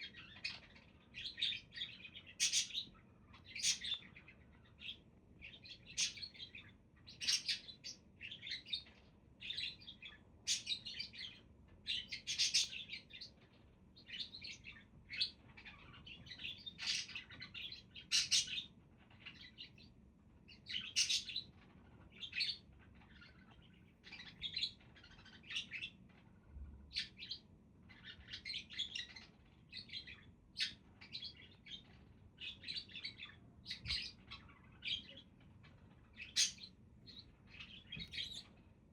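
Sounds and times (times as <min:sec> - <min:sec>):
budgerigars chirping: 0:00.0 - 0:13.4, 0:14.0 - 0:19.9, 0:20.5 - 0:26.0, 0:26.9 - 0:38.5.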